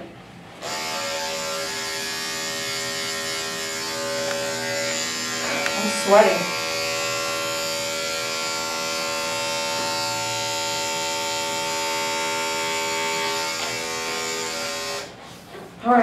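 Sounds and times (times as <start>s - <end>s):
electric clippers buzzing: 0.6s - 15.2s.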